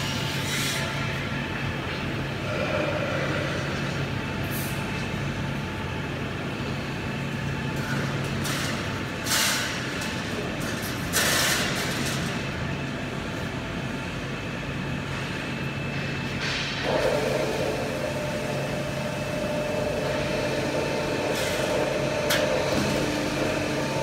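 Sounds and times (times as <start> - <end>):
factory machinery humming: 0.0 - 24.0.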